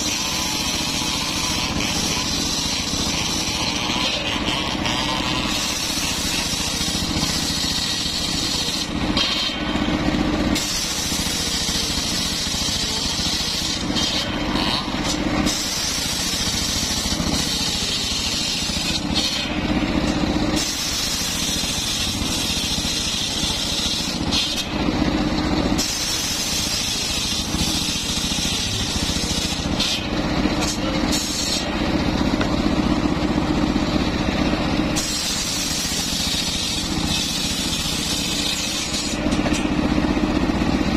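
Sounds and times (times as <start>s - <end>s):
circular saw ripping wood: 0.0s - 31.9s, 34.8s - 40.9s
saw blade and drive humming: 0.0s - 40.9s.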